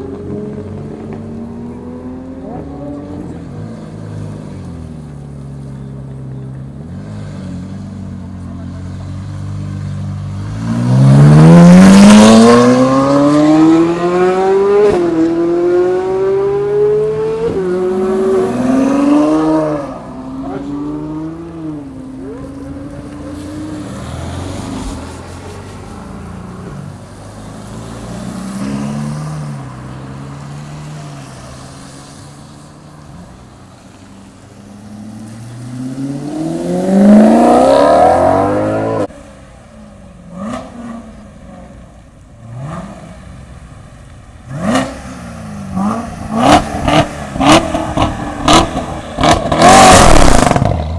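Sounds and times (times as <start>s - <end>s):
car revving up: 0.0s - 39.6s, 40.2s - 50.9s
car engines accelerating: 0.0s - 50.9s.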